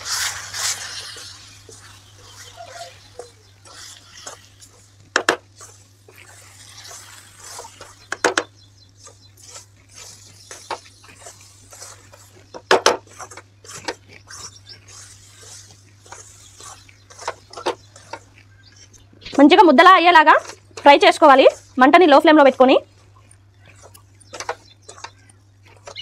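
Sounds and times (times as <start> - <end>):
spatula scraping dough in metal pan: 0.0 - 19.0, 19.6 - 26.0.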